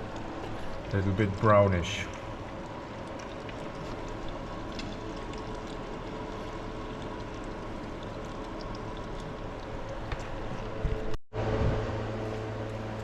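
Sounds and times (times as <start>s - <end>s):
fluid draining into container: 0.0s - 11.2s.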